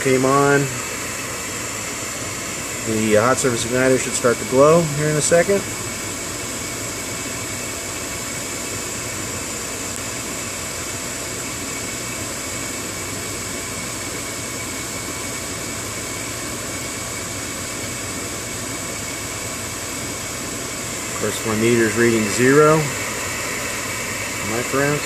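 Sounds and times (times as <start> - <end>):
furnace inducer motor running: 0.0 - 25.0.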